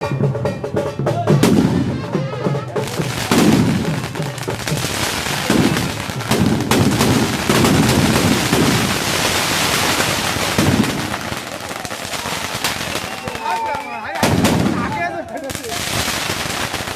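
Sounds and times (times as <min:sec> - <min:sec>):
fireworks bangs and crackling: 0:01.3 - 0:16.9
heavy fireworks booms: 0:01.4 - 0:16.9.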